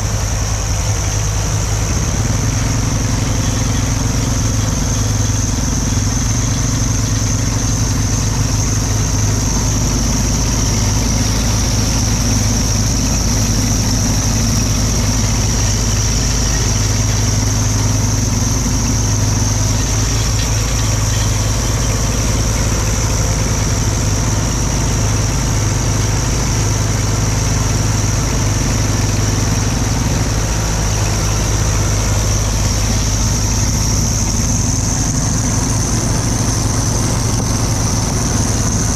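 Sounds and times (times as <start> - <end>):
high-pitched whine: 0.0 - 38.9
tractor engine running: 0.0 - 38.9.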